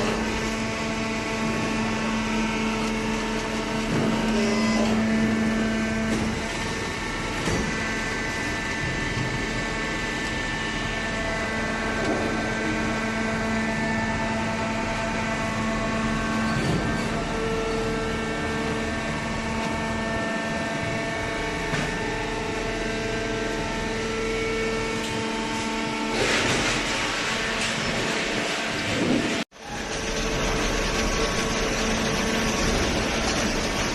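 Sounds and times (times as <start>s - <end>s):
hydraulic press motor humming: 0.0s - 33.9s.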